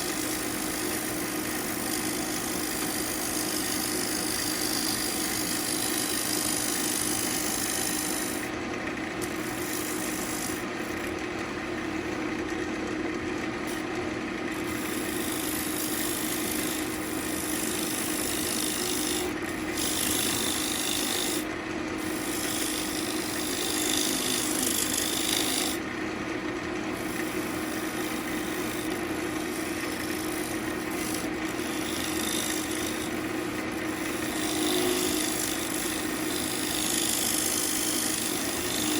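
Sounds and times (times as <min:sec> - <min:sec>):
turning tool scraping wood: 0:00.0 - 0:38.9
wood lathe humming: 0:00.0 - 0:38.9.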